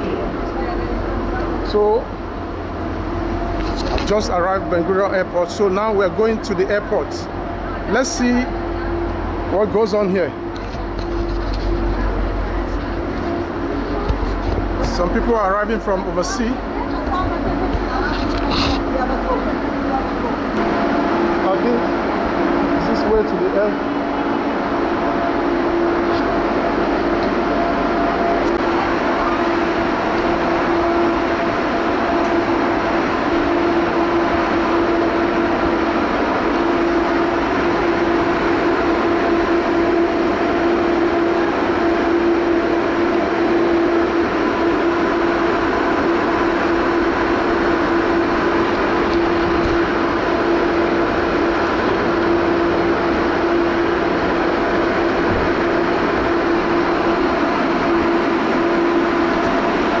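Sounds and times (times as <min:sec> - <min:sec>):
train running: 0:00.0 - 1:00.0.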